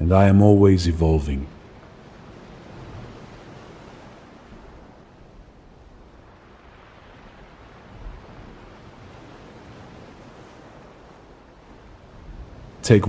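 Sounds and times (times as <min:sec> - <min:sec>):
gentle ocean waves: 0:00.0 - 0:13.0.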